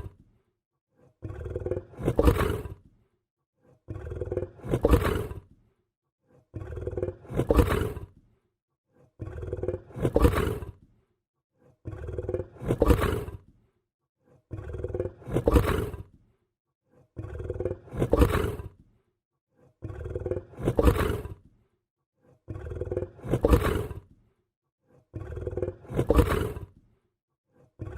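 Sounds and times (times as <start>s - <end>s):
lion growling: 0.0s - 0.3s, 0.9s - 27.9s.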